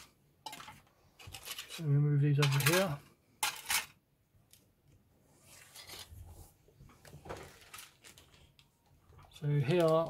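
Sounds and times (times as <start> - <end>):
plastic parts clattering: 0.0 - 4.6, 5.7 - 6.2, 7.0 - 10.0
rustling and scraping of parts: 0.0 - 10.0.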